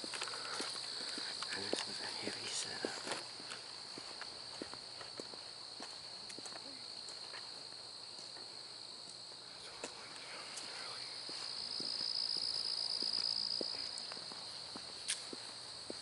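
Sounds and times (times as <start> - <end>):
footsteps on dirt trail: 0.0 - 8.5, 9.7 - 16.0
crickets and insects chirring: 0.0 - 16.0.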